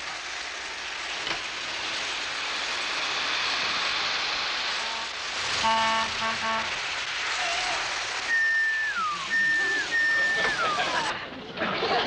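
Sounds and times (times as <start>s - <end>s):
model train wheels whirring on track: 0.0s - 12.0s.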